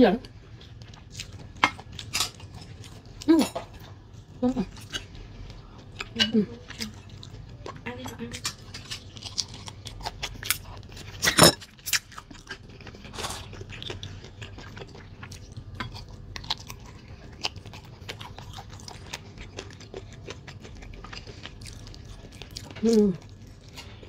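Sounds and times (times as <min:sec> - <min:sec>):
chewing and gnawing meat: 0:00.2 - 0:24.0.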